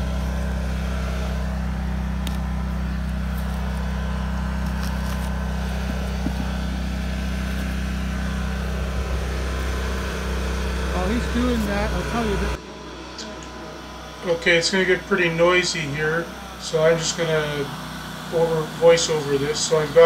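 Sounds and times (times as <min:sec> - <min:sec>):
portable generator engine running: 0:00.0 - 0:20.0.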